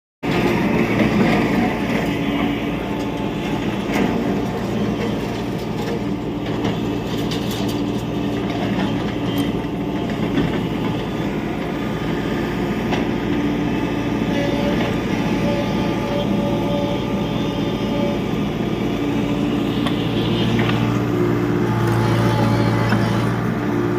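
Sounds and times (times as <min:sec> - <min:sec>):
excavator diesel engine running: 0:00.2 - 0:23.9.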